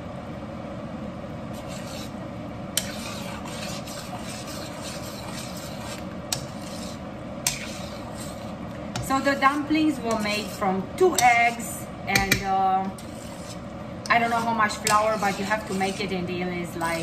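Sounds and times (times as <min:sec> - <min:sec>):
metal spoon scraping a pan: 0:01.5 - 0:02.2, 0:02.8 - 0:16.2.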